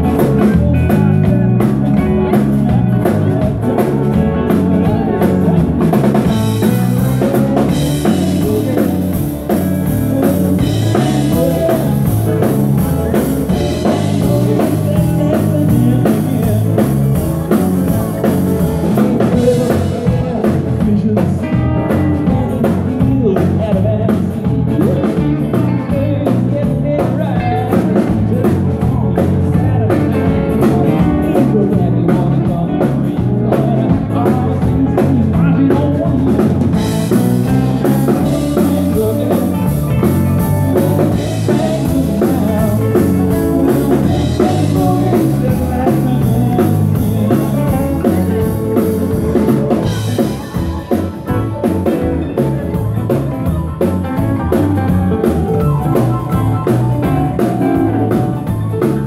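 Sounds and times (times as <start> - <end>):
live band playing dance music: 0.0 - 59.0.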